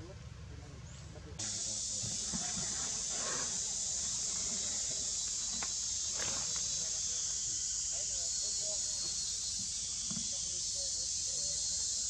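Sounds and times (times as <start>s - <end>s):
insect chorus drone: 1.4s - 12.0s.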